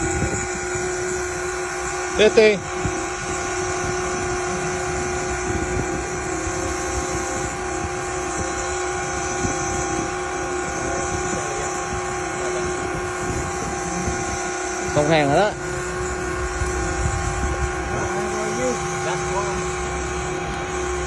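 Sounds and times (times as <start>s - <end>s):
motor humming: 0.0s - 21.0s
water noise: 0.0s - 21.0s.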